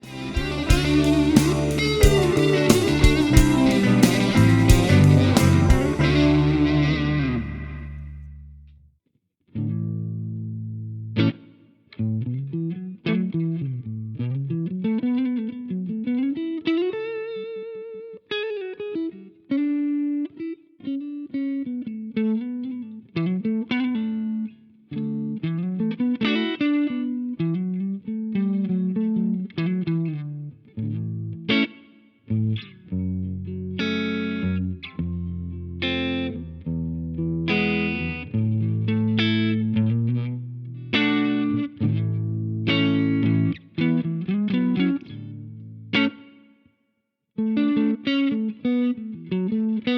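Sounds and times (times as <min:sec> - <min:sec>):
overdriven electric guitar: 0:00.0 - 0:08.4, 0:11.2 - 0:46.4, 0:47.4 - 0:49.9.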